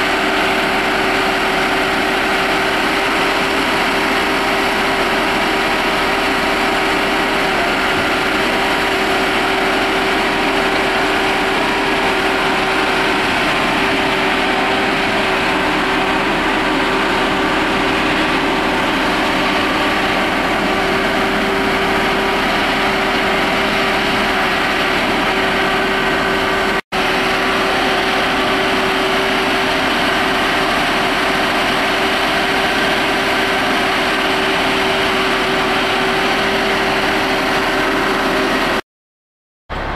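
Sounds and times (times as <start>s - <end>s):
diesel engine under load: 0.0s - 38.8s
hydraulic whine: 0.0s - 38.8s.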